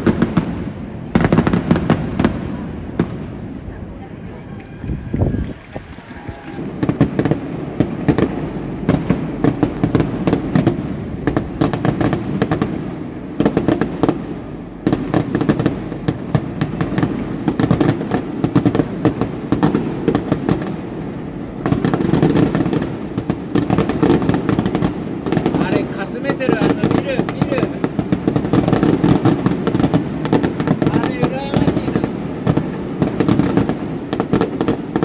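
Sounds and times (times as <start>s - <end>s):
fireworks cracking and banging: 0.0s - 35.0s
low fireworks rumble: 0.0s - 35.0s.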